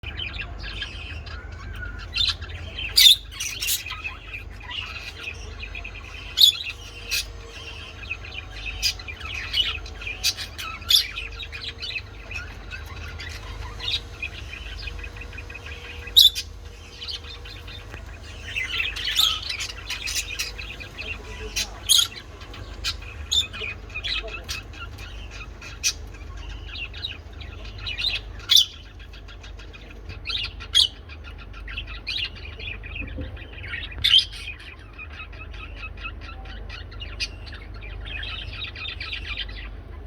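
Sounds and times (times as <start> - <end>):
lovebirds chirping: 0.0 - 40.0
sharp loud bird calls: 0.0 - 40.0
steady low hum: 0.0 - 40.0.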